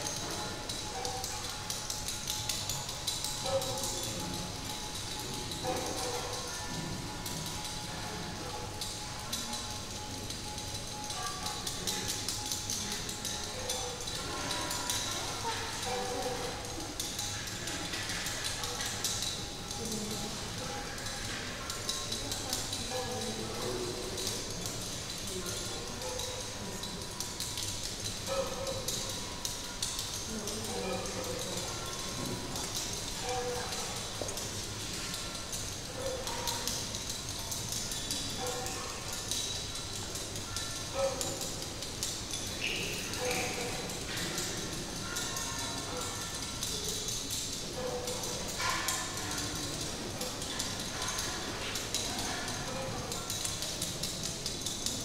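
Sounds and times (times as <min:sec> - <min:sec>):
small clicks and taps: 0:00.0 - 0:55.0.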